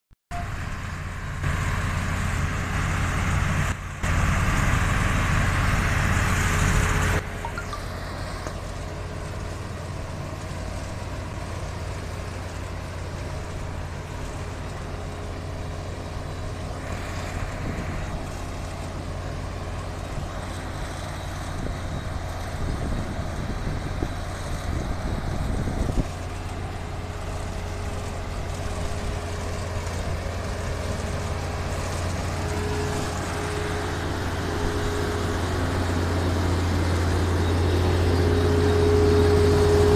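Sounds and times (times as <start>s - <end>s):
harvester engine droning: 0.3s - 39.9s
lorry engine: 0.3s - 39.9s.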